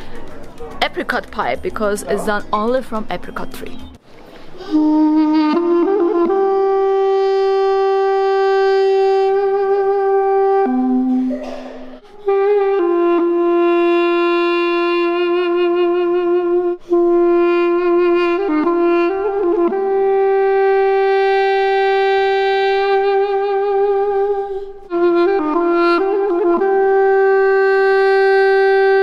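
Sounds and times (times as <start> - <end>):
double-reed pipe solo melody: 4.6 - 29.0.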